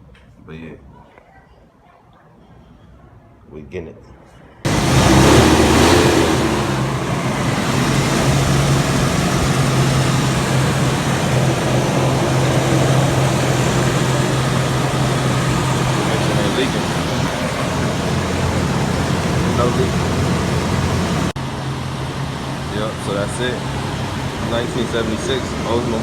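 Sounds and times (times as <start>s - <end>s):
car engine idling: 4.7s - 26.0s.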